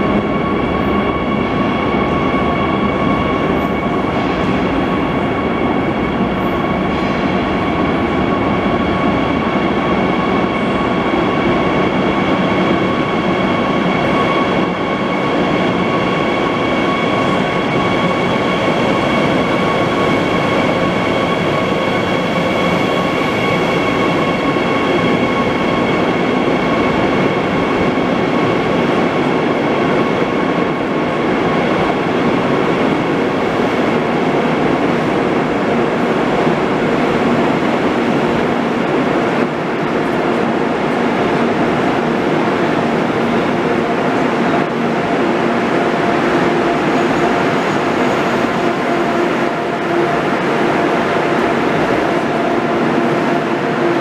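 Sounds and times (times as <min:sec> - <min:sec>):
train high whine: 0:00.0 - 0:54.0.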